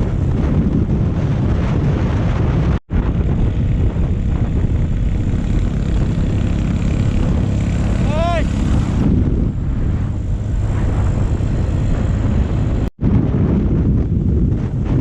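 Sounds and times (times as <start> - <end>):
motorcycle running: 0.0 - 15.0
wind buffeting microphone: 0.0 - 15.0.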